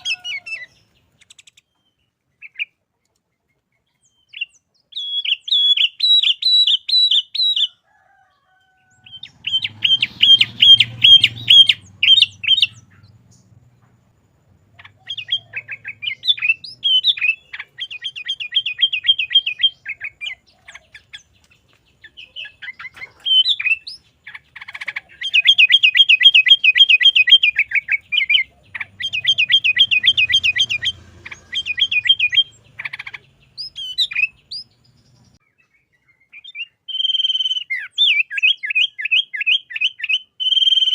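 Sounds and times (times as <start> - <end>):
bulbul chirping song: 0.0 - 7.8, 8.7 - 40.9.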